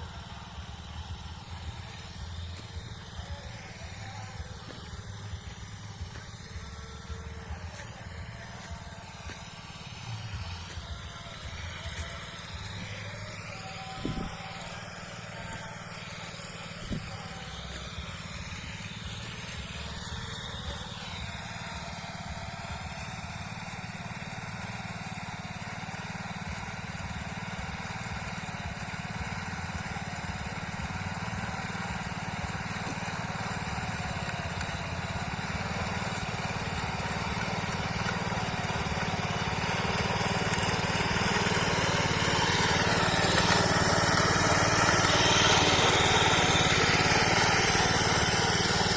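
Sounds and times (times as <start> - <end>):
power weeder engine running: 0.0 - 48.9.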